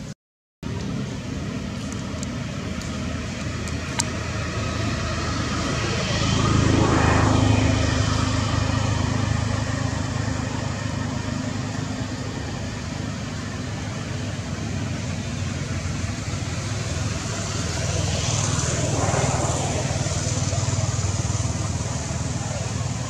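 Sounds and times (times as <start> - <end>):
low rumble with hiss: 0.6 - 23.0.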